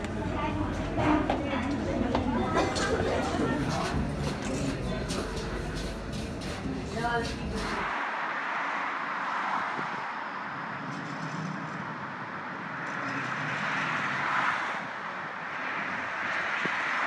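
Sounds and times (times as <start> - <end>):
traffic hiss of trams and cars: 2.5 - 17.0.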